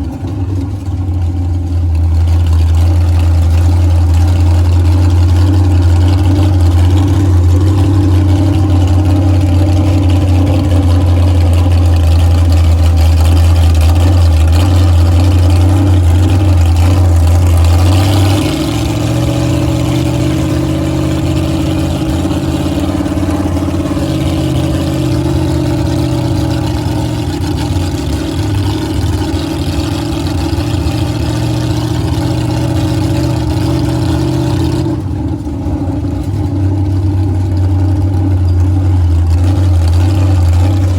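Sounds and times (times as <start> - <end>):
truck engine running deep drone: 0.0 - 40.9.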